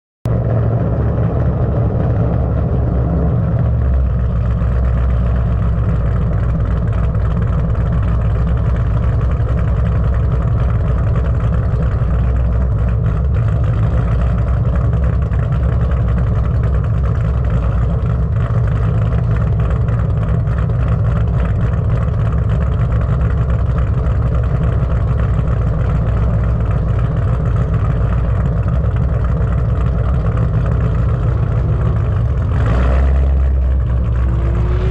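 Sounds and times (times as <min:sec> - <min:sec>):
car engine running steadily: 0:00.2 - 0:34.9.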